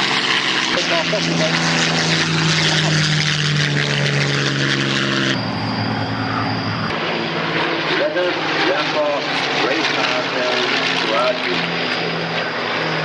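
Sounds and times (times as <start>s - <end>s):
propeller engine drone: 0.0s - 13.0s.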